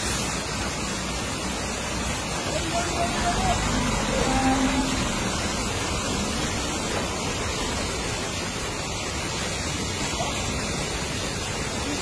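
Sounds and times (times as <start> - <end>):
high-pressure water spray: 0.0 - 12.0.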